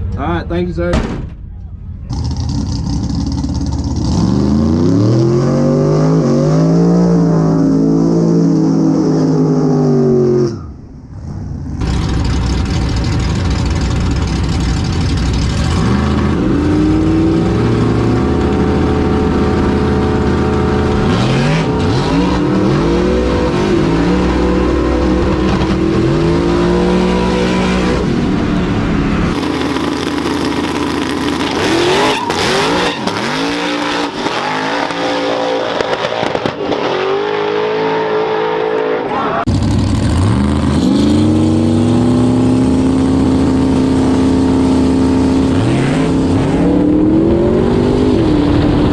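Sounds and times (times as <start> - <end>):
race truck engine revving: 2.0 - 48.9.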